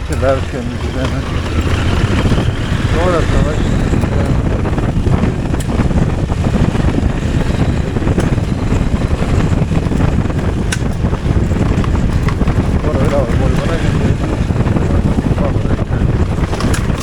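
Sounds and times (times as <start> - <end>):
motorcycle running: 0.0 - 17.0
sharp clicks: 0.0 - 17.0
wind buffeting microphone: 0.0 - 17.0.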